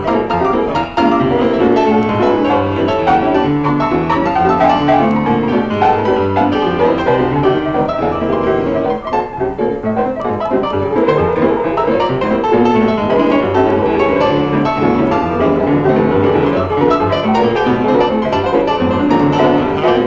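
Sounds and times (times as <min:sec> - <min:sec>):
lively stride piano tune: 0:00.0 - 0:20.0.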